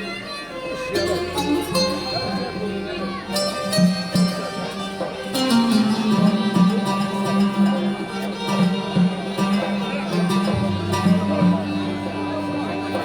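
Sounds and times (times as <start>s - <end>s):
plucked and bowed strings melody: 0.0s - 13.0s
percussion strokes: 0.9s - 13.0s.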